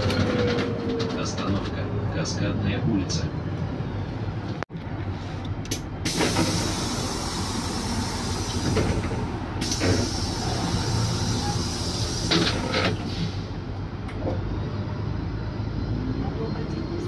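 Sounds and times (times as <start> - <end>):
bus drive and road noise: 0.0 - 17.0.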